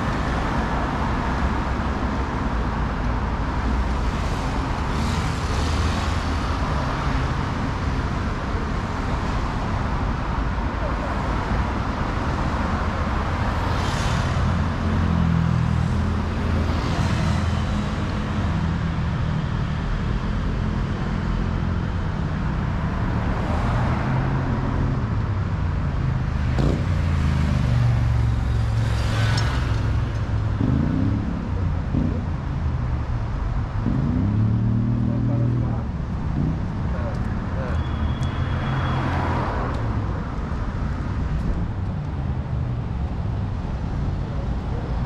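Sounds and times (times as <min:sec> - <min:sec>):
cars passing by: 0:00.0 - 0:45.0.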